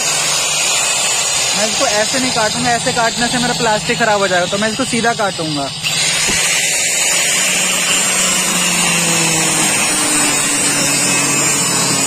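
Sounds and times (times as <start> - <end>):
angle grinder cutting metal: 0.0 - 12.0.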